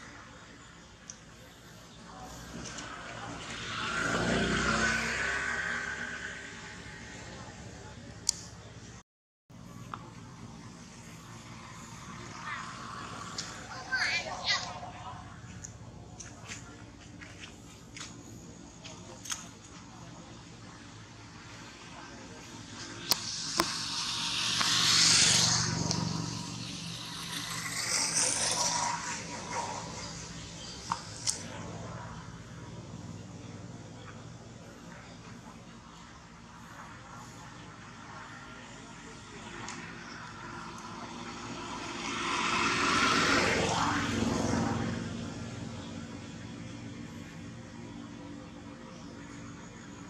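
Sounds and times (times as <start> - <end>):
vehicle passing by: 0.0 - 8.2, 9.6 - 50.0.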